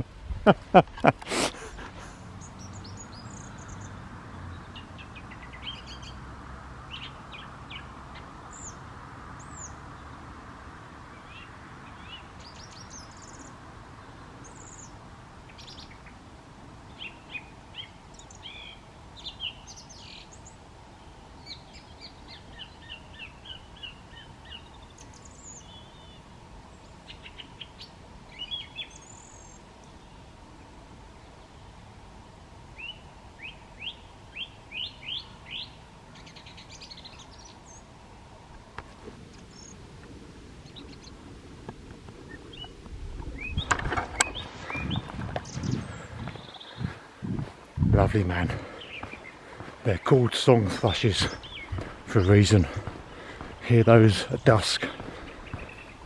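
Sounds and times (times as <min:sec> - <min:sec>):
faint background hiss: 0:00.0 - 0:56.0
songbirds chirping: 0:00.0 - 0:56.0.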